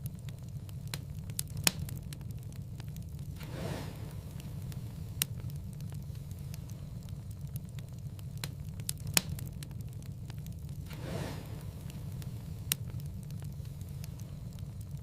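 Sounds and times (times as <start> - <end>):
fire snaps and pops: 0.0 - 15.0
low rumble of flames: 0.0 - 15.0.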